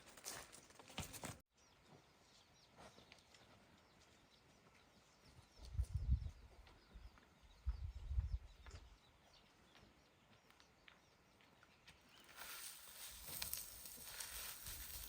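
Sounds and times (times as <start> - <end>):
birds chirping faintly: 1.5 - 15.0.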